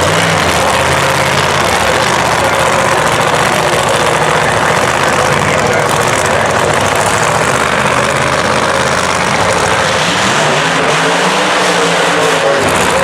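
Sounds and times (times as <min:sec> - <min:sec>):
loud racing engine: 0:00.0 - 0:13.0.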